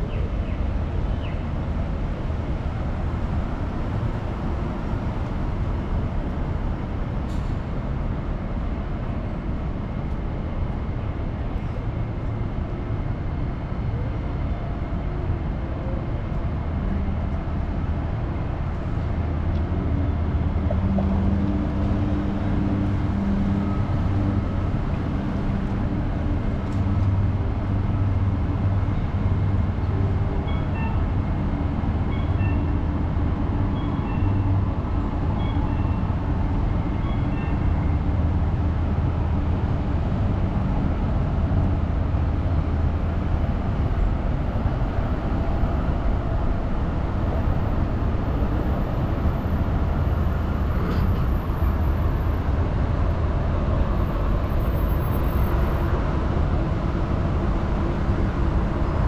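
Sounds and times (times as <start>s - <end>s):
city traffic rumble: 0.0s - 59.0s
heavy vehicle engine hum: 0.0s - 59.0s.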